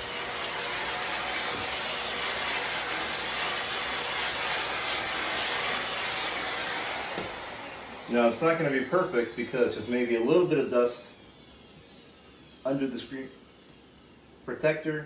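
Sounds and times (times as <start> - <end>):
small vacuum running with air rush: 0.0 - 14.4.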